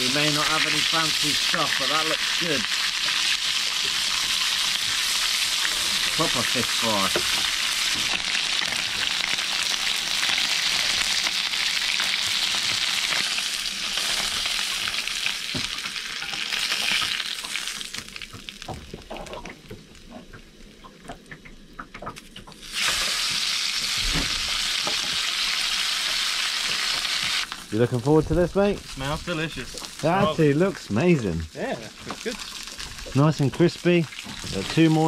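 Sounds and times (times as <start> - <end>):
fish sizzling in frying pan: 0.0 - 20.1, 22.2 - 35.0.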